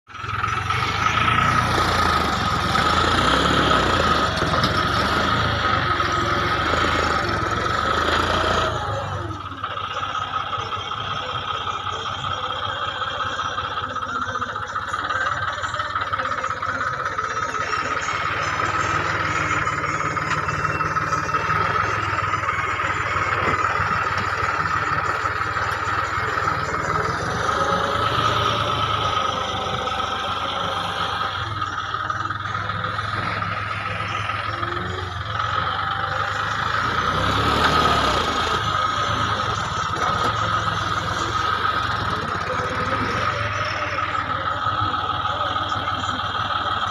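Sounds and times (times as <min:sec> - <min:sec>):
tractor diesel engine running: 0:00.0 - 0:46.9
high whine: 0:00.1 - 0:46.9.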